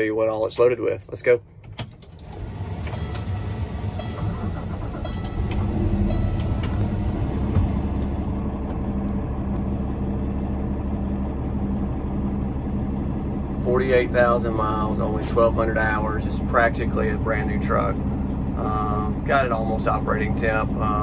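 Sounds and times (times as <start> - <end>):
diesel truck engine idling: 2.2 - 21.0.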